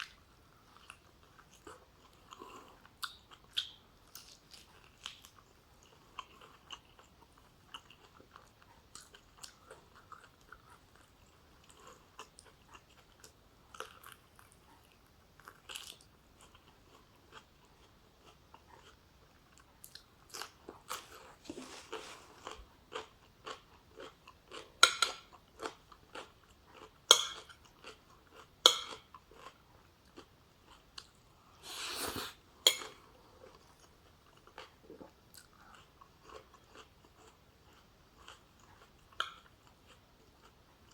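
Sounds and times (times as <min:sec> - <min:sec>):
chewing and crunching food: 0:00.0 - 0:40.9.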